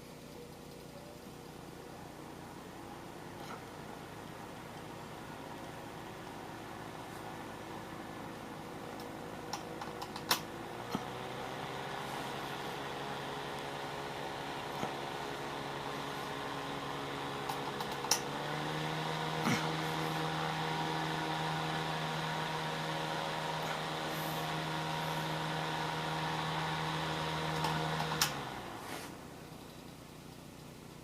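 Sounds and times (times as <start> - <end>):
desk fan motor hum: 0.0 - 31.0.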